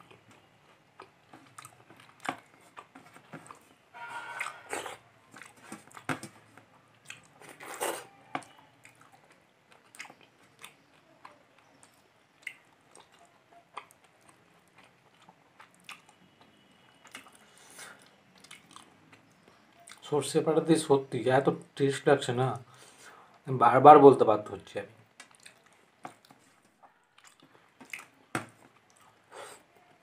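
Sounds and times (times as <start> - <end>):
person chewing food: 0.0 - 20.0, 25.0 - 29.9.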